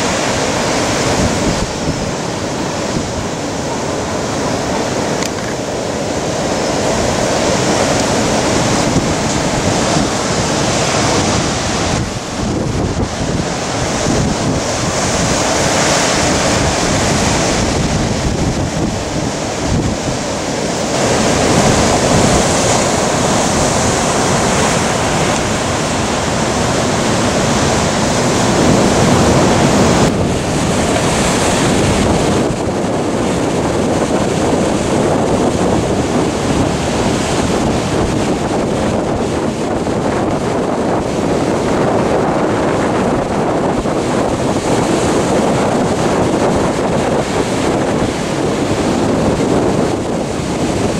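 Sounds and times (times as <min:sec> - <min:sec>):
storm surf crashing: 0:00.0 - 0:50.9
wind buffeting microphone: 0:00.0 - 0:50.9.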